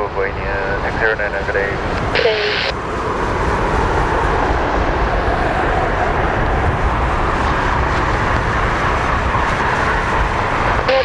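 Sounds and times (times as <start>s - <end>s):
jet engine low rumble: 0.0s - 11.0s.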